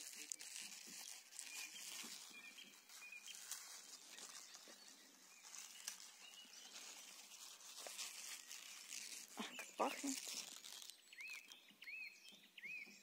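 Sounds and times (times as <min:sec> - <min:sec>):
plant stalks rustling: 0:00.0 - 0:11.6
distant bird chirps: 0:00.3 - 0:13.0.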